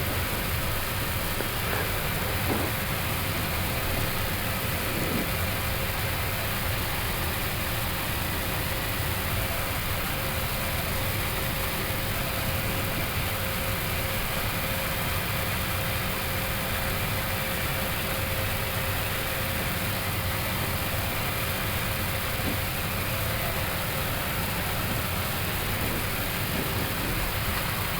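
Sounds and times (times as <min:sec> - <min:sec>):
faint steady whine: 0:00.0 - 0:27.9
low engine hum: 0:00.0 - 0:27.9
ventilation hiss: 0:00.0 - 0:27.9.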